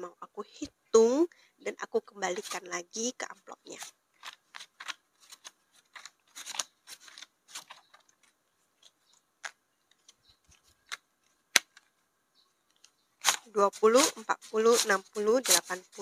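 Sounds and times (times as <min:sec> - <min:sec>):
banknotes crinkling and rustling: 0:02.3 - 0:16.0.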